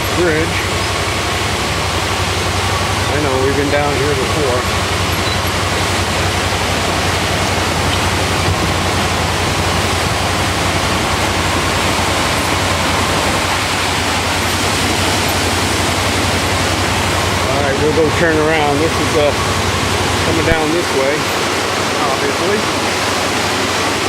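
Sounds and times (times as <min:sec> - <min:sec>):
river rushing: 0:00.0 - 0:24.0
vehicle engine idling: 0:00.0 - 0:24.0.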